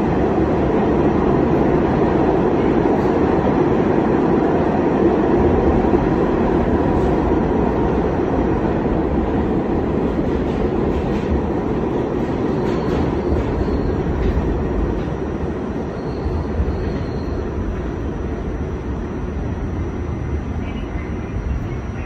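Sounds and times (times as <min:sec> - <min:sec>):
subway train rumbling on rails: 0:00.0 - 0:22.0.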